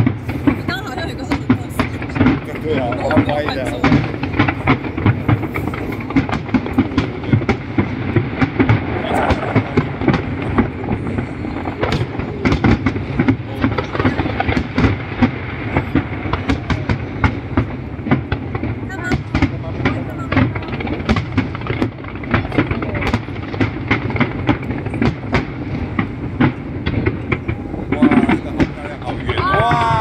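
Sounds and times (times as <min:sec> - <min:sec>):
continuous rumble: 0:00.0 - 0:30.0
fireworks popping and banging: 0:00.0 - 0:30.0.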